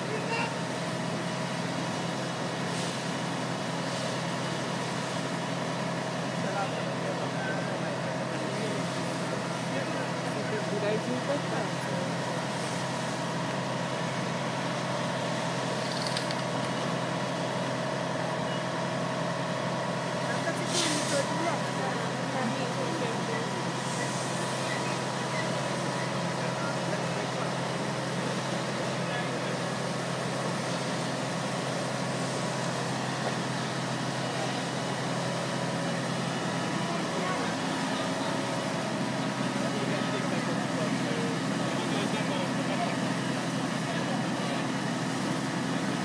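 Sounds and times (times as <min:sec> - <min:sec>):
fire engine running: 0:00.0 - 0:46.0.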